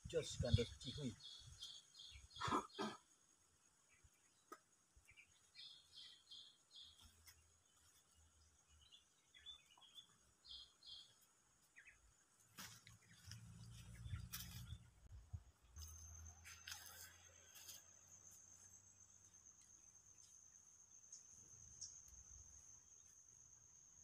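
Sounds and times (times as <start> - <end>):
faint bird chirps: 0.1 - 24.0.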